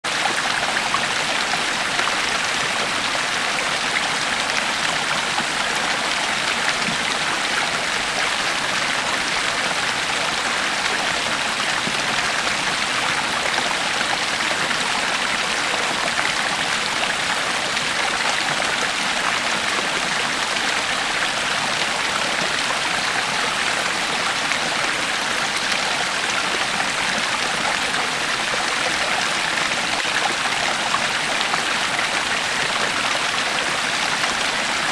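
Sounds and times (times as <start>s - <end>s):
creek water rushing over rocks: 0.0s - 34.9s.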